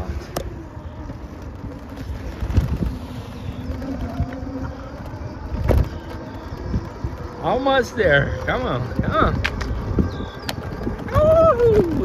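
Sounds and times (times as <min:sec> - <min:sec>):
bicycle road noise: 0:00.0 - 0:12.0
steady low hum: 0:00.0 - 0:12.0
wind rumbling on microphone: 0:00.0 - 0:12.0.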